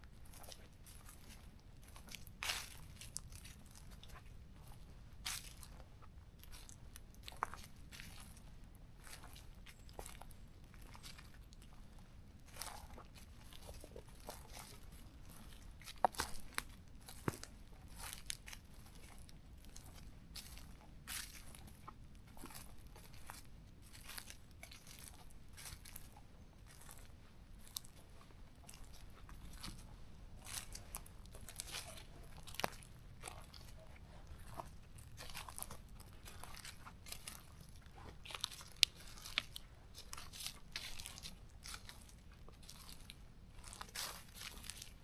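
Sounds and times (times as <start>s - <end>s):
footsteps crunching on trail: 0.0s - 45.0s.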